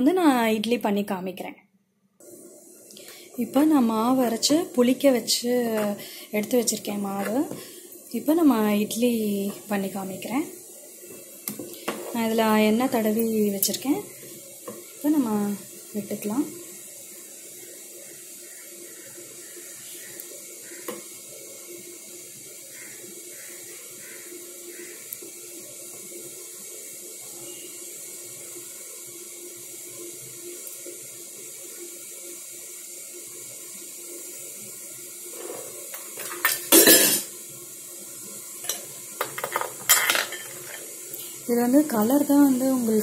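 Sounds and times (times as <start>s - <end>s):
steady hiss: 2.2s - 43.0s.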